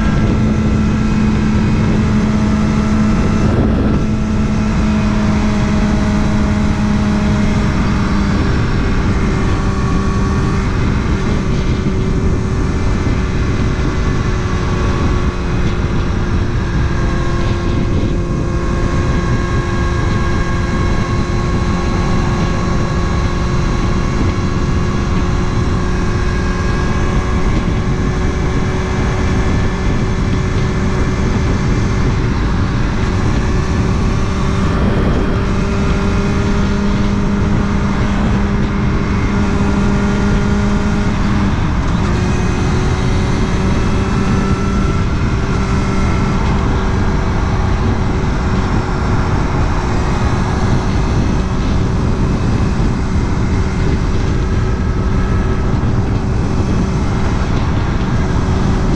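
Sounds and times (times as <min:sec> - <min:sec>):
motorcycle engine running: 0:00.0 - 0:58.9
wind on microphone: 0:00.0 - 0:58.9.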